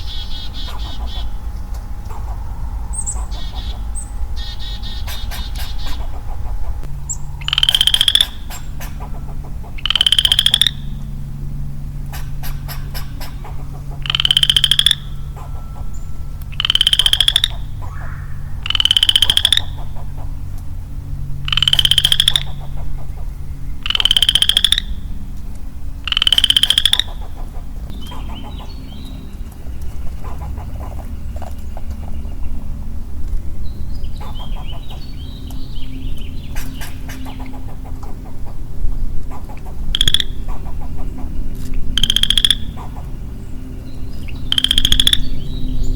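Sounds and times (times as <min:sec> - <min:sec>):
frog calling in pulsed trills: 0:00.0 - 0:11.4, 0:12.4 - 0:25.3, 0:26.0 - 0:32.9, 0:39.7 - 0:45.9.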